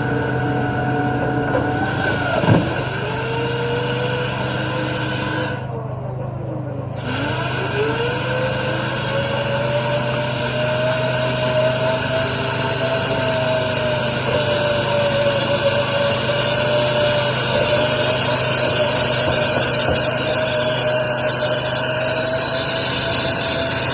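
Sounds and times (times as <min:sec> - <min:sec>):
motor whine: 0:00.0 - 0:23.9.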